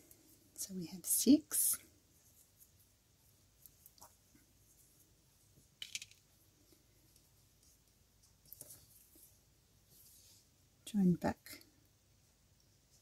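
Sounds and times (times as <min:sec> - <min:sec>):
thread rustling and shuttle clicks: 0:00.0 - 0:10.5.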